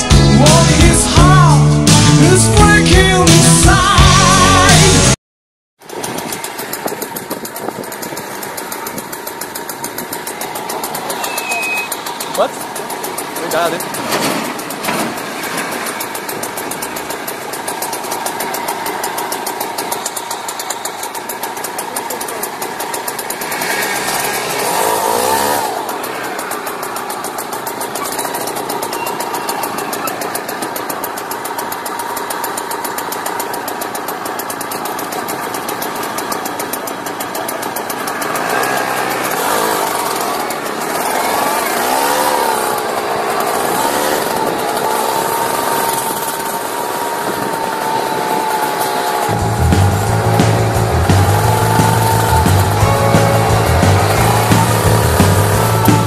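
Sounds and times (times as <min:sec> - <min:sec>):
moped engine revving: 0:05.8 - 0:56.0.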